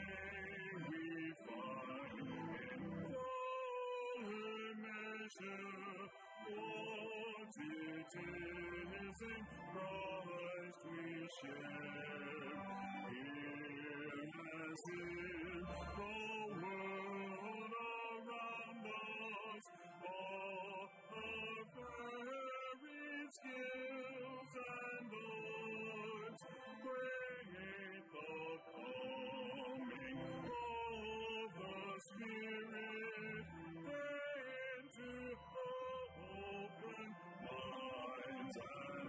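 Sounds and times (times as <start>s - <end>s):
hymn singing: 0.0s - 39.0s.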